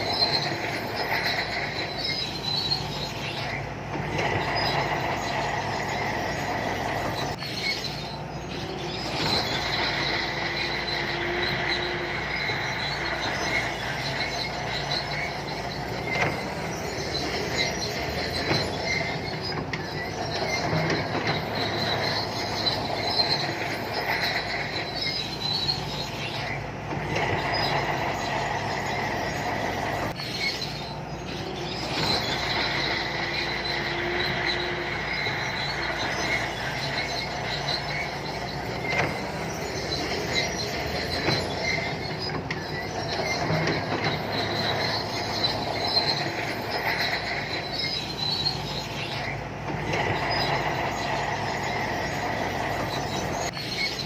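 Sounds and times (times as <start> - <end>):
bulldozer diesel engine running: 0.0 - 54.0
steel tracks squealing and clanking: 0.0 - 54.0.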